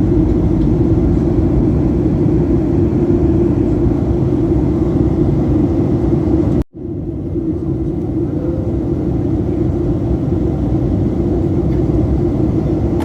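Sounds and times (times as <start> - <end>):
airliner cabin rumble: 0.0 - 13.0
low steady hum: 0.0 - 13.0.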